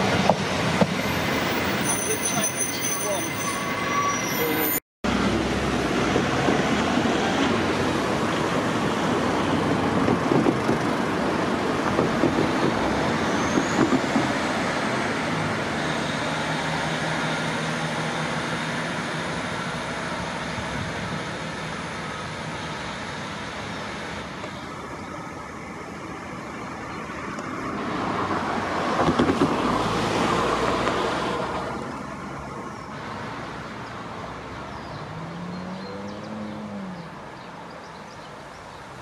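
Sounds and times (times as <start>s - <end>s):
wheel and rail noise: 0.0s - 39.0s.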